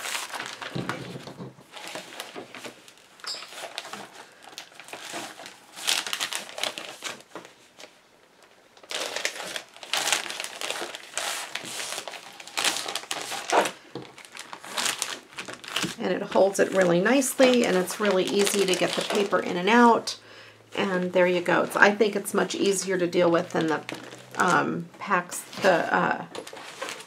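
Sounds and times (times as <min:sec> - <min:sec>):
plastic bag crinkling: 0:00.0 - 0:20.0, 0:20.8 - 0:27.0.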